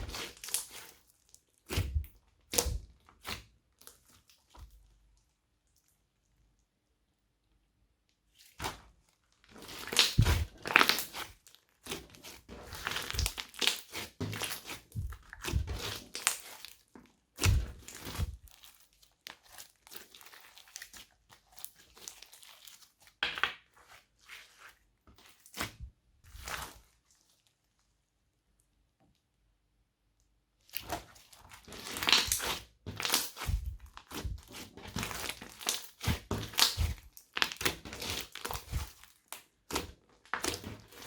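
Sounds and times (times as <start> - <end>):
hands squishing slime: 0.0 - 5.7, 8.2 - 27.5, 30.7 - 41.0.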